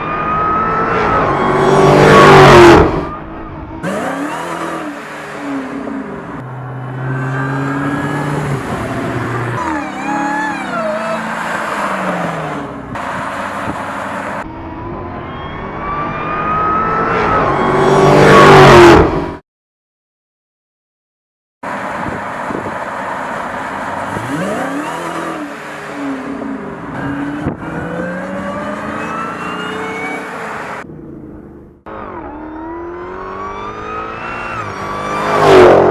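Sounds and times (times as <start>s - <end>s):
car engine accelerating and revving: 0.0s - 19.4s, 21.6s - 35.9s.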